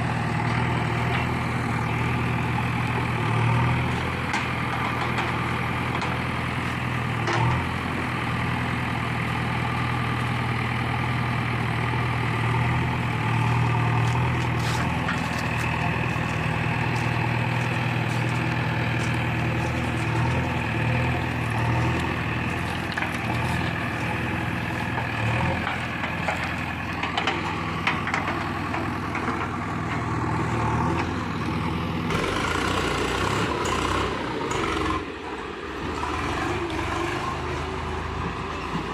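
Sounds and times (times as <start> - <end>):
diesel machinery engine running: 0.0 - 38.9.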